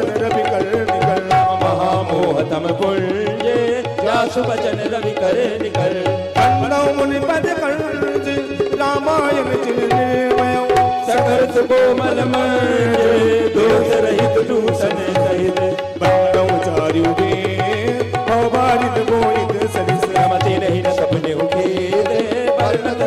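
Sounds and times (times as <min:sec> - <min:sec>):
person singing: 0:00.0 - 0:23.0
tabla drumming: 0:00.0 - 0:23.0.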